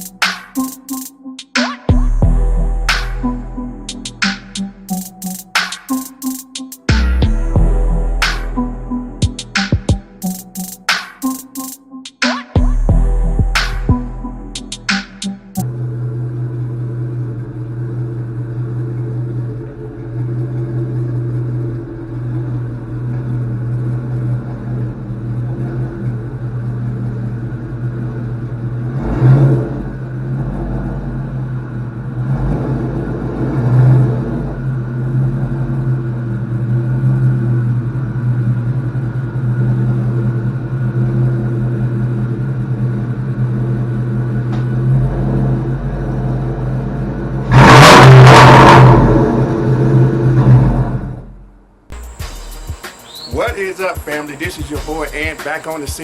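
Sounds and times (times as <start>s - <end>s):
car engine idling and revving: 0.0s - 0.9s, 1.9s - 6.0s, 6.9s - 10.7s, 12.6s - 53.2s, 54.2s - 55.9s.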